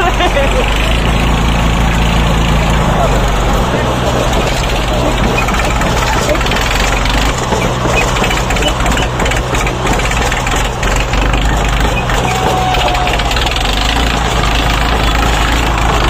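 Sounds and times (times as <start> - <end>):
diesel tractor engines running: 0.0 - 16.0.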